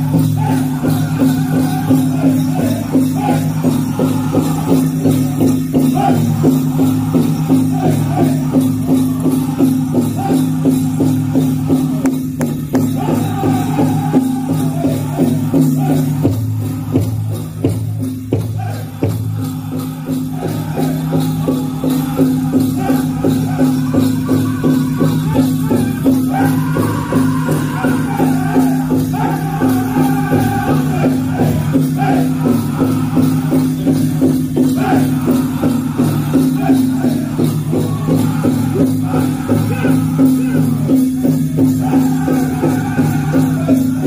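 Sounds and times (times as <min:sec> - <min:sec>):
big drum beating fast: 0:00.0 - 0:44.0
jingling shaker-like sound: 0:00.0 - 0:44.0
voices singing together: 0:00.0 - 0:44.0.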